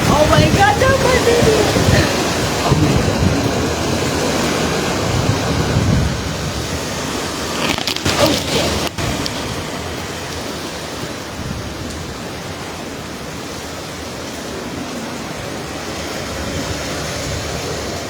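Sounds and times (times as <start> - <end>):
heavy rain: 0.0 - 18.0
hurricane wind: 0.0 - 18.0.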